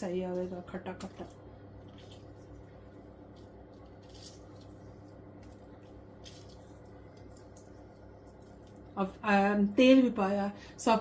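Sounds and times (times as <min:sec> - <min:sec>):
steady low hum: 0:00.0 - 0:11.0
liquid squishing and dripping: 0:00.2 - 0:09.2.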